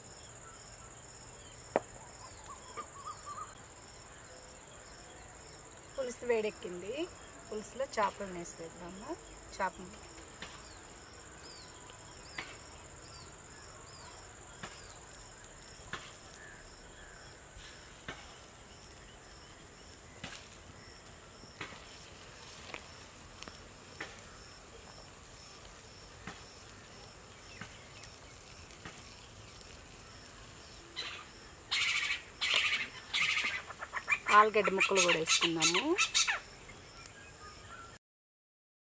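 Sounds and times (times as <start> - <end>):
crickets droning: 0.0 - 38.0.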